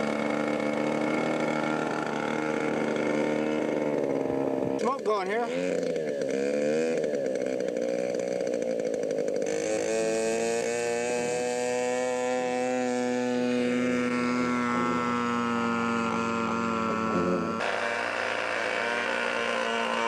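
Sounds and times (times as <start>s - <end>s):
model airplane engine running: 0.0s - 20.0s.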